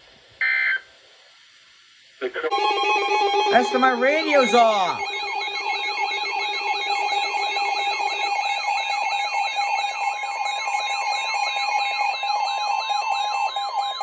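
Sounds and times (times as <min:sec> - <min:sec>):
rapid falling alarm sweeps: 0:02.5 - 0:14.0
steady alarm tones: 0:02.5 - 0:14.0
warbling high tone: 0:02.5 - 0:14.0.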